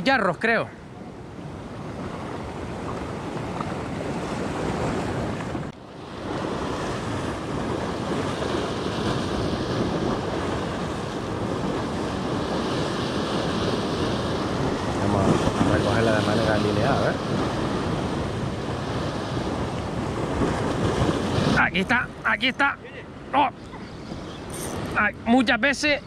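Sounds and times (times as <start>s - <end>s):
sea waves washing: 0.0s - 26.0s
wind buffeting microphone: 0.9s - 26.0s.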